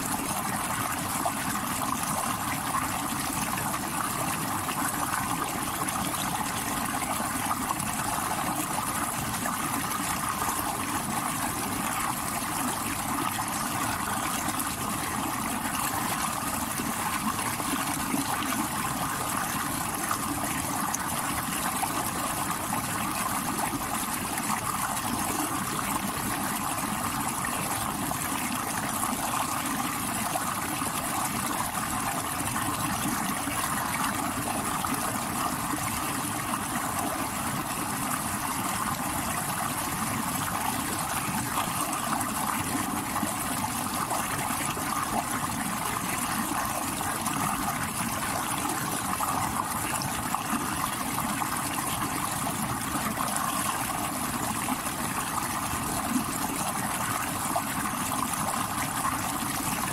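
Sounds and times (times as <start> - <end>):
stream water rushing over rocks: 0.0 - 59.9.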